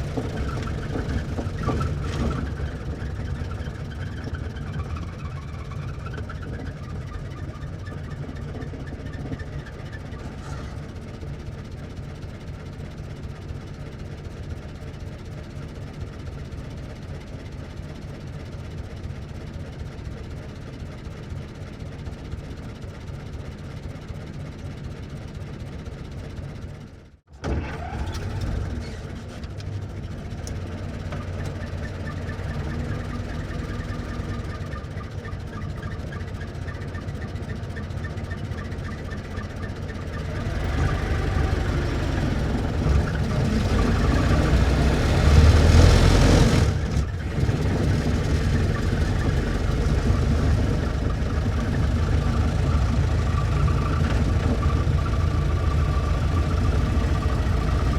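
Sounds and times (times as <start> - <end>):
old car engine chugging: 0.0 - 57.9.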